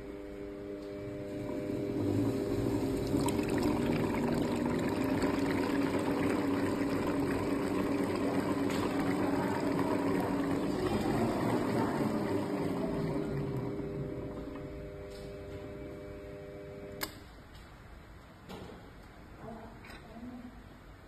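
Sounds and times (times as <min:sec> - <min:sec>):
stand mixer motor hum: 0:00.0 - 0:17.0.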